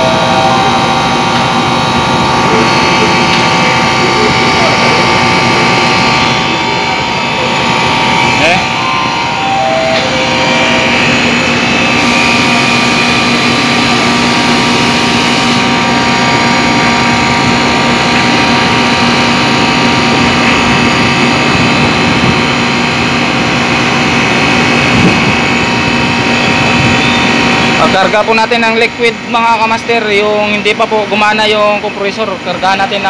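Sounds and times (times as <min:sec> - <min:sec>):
compressor hum: 0:00.0 - 0:33.0
condenser fan noise: 0:00.0 - 0:33.0.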